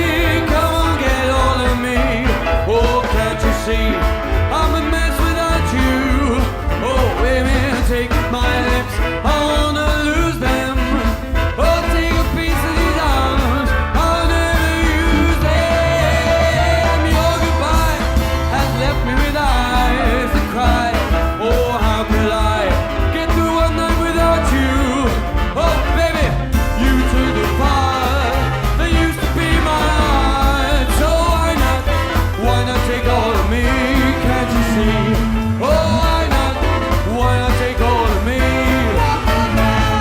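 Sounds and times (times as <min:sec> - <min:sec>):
band playing rock and roll: 0:00.0 - 0:40.0.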